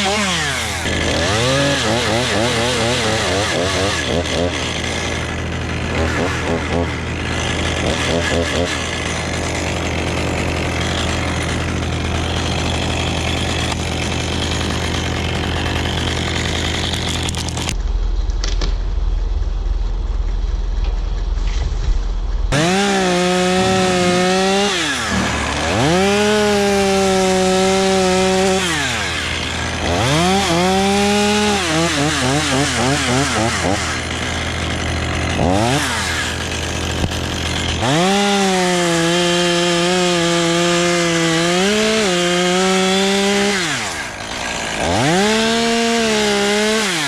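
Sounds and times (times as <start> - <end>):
chainsaw revving: 0.0 - 17.8, 22.5 - 47.0.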